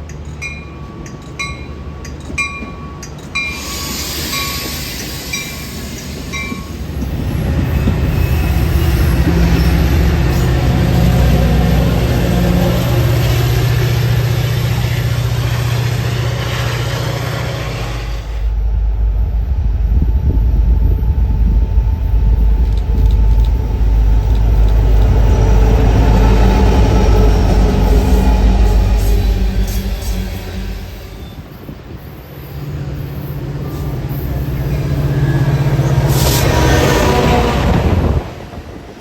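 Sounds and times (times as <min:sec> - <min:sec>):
deep train rumble: 0:00.0 - 0:39.0
diesel locomotive engine drone: 0:00.0 - 0:39.0
train wheel and rail noise: 0:00.0 - 0:39.0.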